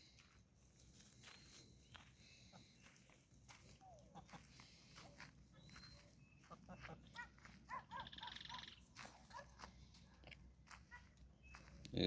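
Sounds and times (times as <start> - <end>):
birds chirping: 1.1 - 12.0.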